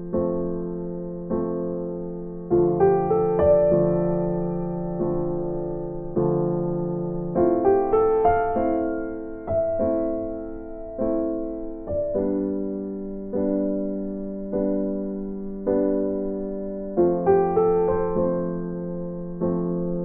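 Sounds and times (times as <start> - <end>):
soft electric piano piece: 0.0 - 20.0.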